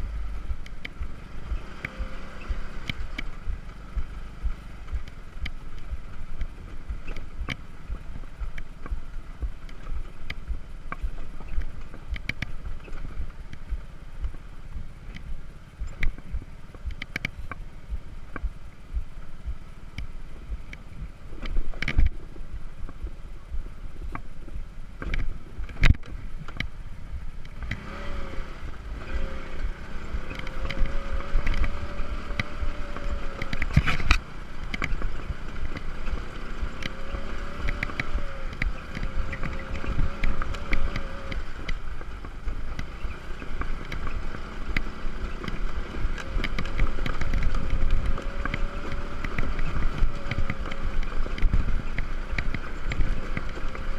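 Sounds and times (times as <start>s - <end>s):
low rumble of tyres on track: 0.0s - 53.9s
scooter engine whine: 0.0s - 53.9s
wind noise: 0.0s - 53.9s.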